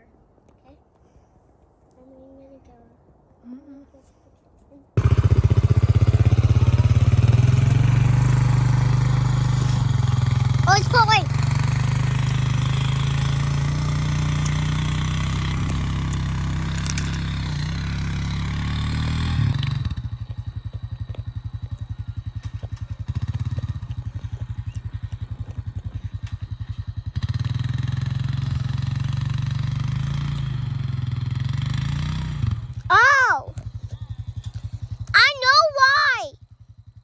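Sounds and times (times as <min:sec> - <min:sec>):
quad bike engine running: 0:05.0 - 0:37.0.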